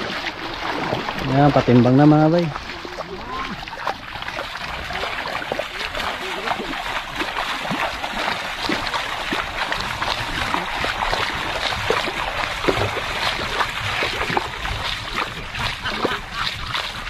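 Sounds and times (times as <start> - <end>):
feet splashing in shallow water: 0.0 - 17.0.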